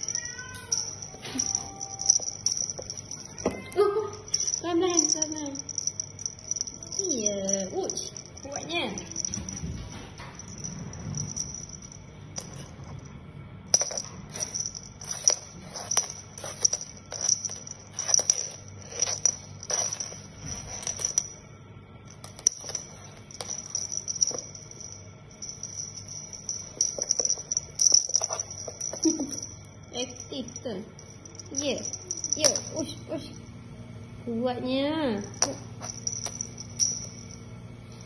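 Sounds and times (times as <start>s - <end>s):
beaded toy rattling and jingling: 0.0s - 13.0s, 13.7s - 21.4s, 22.1s - 33.4s, 35.2s - 38.0s
high ringing: 0.0s - 38.0s.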